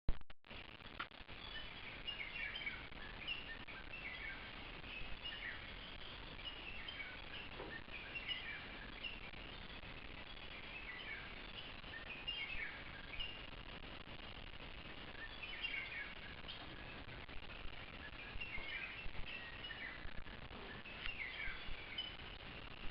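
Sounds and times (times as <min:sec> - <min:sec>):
low background hiss: 0:00.5 - 0:22.9
birds chirping: 0:00.9 - 0:22.9.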